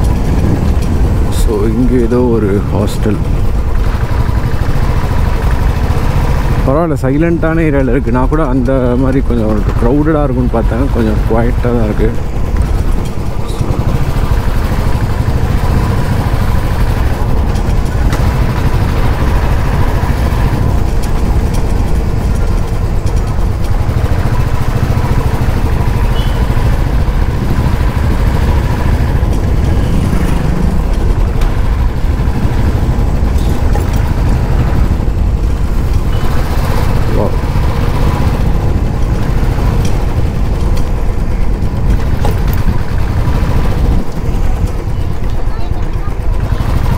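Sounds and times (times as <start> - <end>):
motorcycle engine rumble: 0.0 - 46.9.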